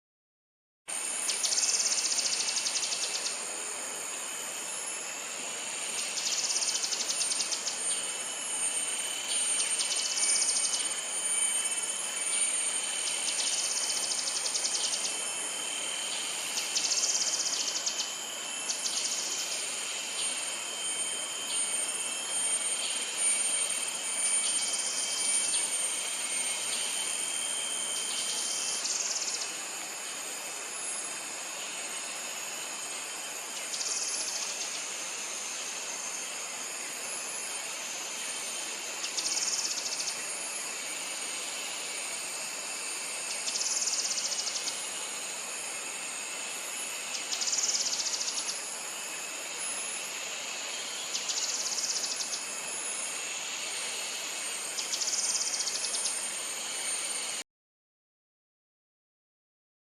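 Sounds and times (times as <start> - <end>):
high-pitched insect drone: 0.9 - 57.4.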